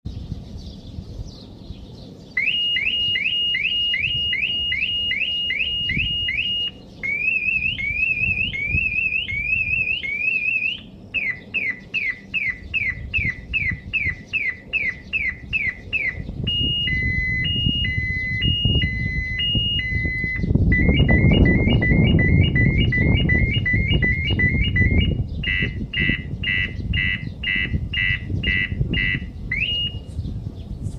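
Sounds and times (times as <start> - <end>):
low rumbling noise: 0.1 - 30.9
car alarm siren: 2.4 - 30.1.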